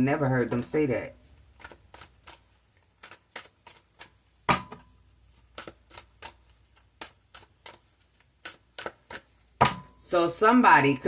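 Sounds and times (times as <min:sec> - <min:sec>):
cards being shuffled by hand: 0:00.6 - 0:09.6.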